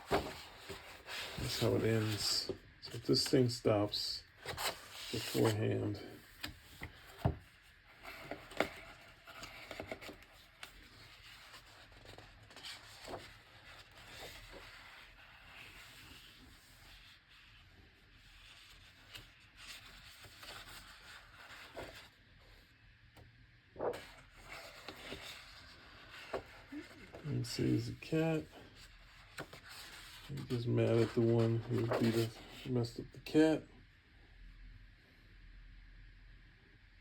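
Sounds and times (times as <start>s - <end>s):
book pages rustling and turning: 0.0s - 3.7s, 4.3s - 22.6s, 23.8s - 33.5s.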